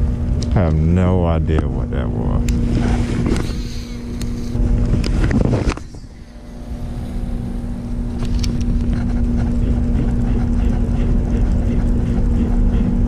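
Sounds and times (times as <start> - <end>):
low rumble: 0.0 - 13.0
electric trolling motor humming: 2.3 - 13.0.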